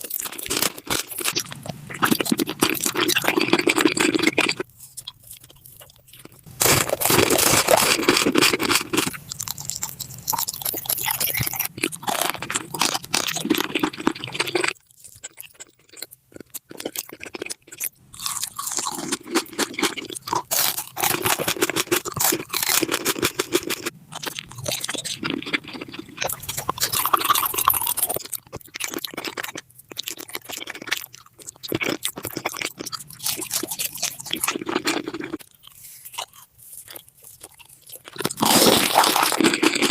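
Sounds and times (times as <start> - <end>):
crunchy chewing of food: 0.0 - 39.9.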